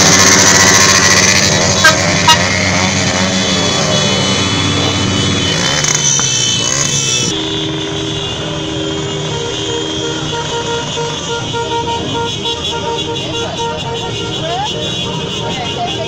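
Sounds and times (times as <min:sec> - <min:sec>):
vehicle horns honking: 0:00.0 - 0:16.0
vehicles passing slowly: 0:00.0 - 0:16.0.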